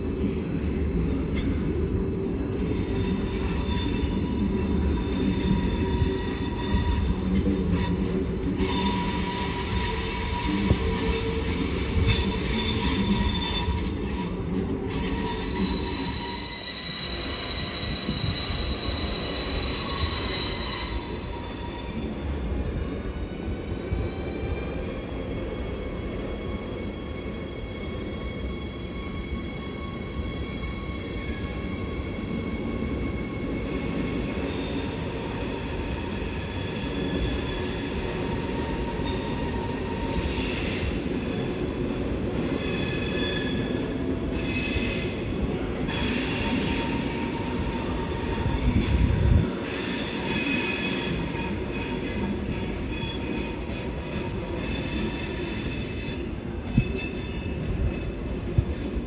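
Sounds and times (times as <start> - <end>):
train wheels squealing: 0.0 - 59.0.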